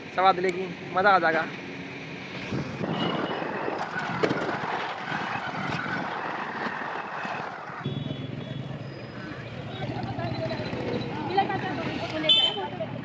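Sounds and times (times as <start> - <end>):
road traffic with engines running: 0.0 - 13.0.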